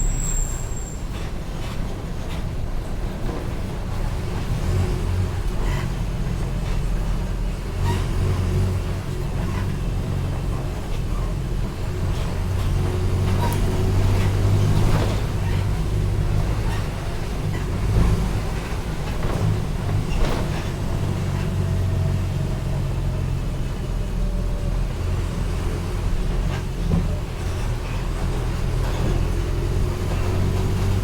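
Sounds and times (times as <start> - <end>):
bus diesel engine drone: 0.0 - 31.0.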